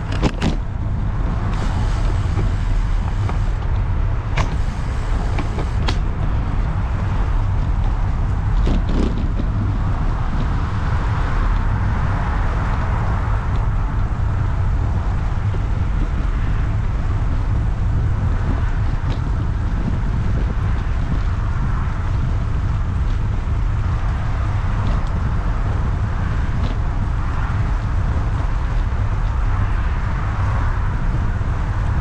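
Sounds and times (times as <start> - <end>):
road traffic noise: 0.0 - 32.0
wind rumbling on microphone: 0.0 - 32.0.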